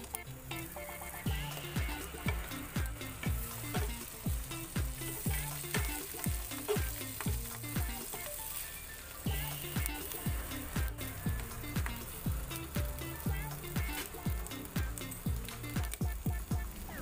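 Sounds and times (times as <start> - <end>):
background music with beat: 0.0 - 17.0
food sizzling in a pan: 0.0 - 17.0.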